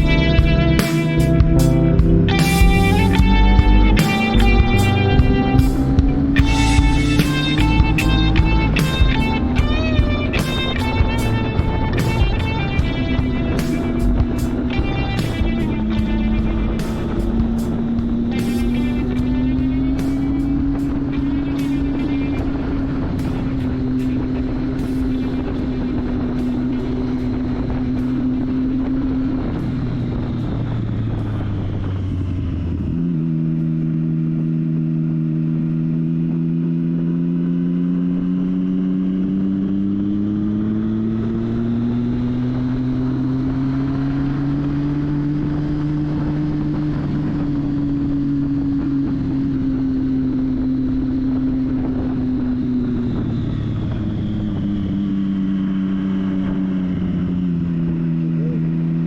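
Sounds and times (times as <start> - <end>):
wind noise: 0.0 - 34.6, 38.2 - 59.0
motorcycle engine running: 0.0 - 59.0.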